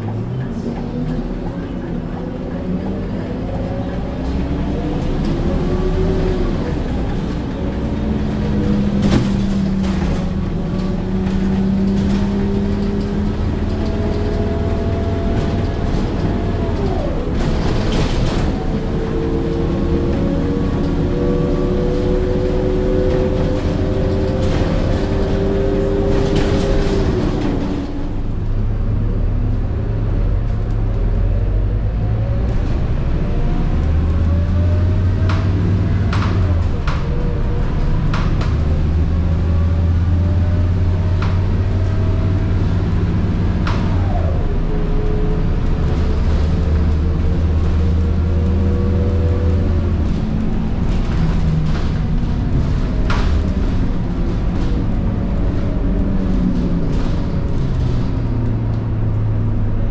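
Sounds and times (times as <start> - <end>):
diesel bus engine under load: 0.0 - 59.9.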